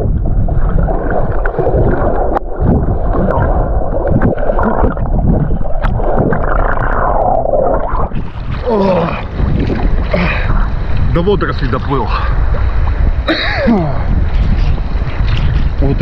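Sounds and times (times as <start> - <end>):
water gurgling: 0.0 - 16.0
water splashing and sloshing: 0.0 - 16.0.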